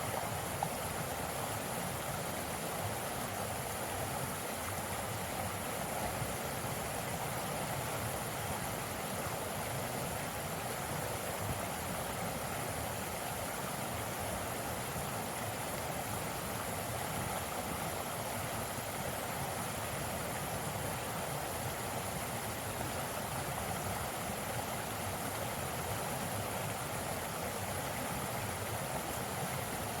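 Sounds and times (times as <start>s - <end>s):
mountain stream flowing: 0.0s - 30.0s.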